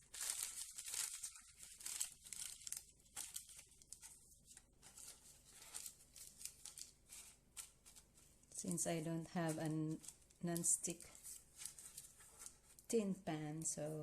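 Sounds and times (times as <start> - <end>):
parchment paper crinkling: 0.0 - 12.9.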